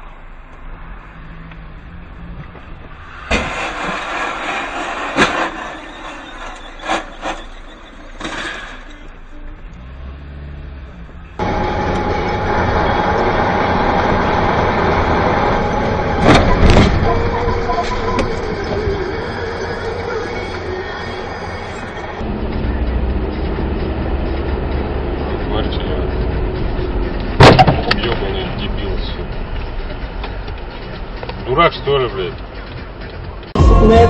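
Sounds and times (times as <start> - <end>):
road and engine noise inside car: 0.0 - 34.0.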